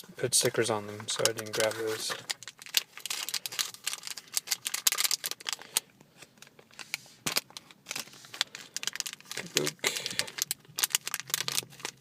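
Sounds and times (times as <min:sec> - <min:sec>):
foil bag crinkling: 0:01.1 - 0:12.0.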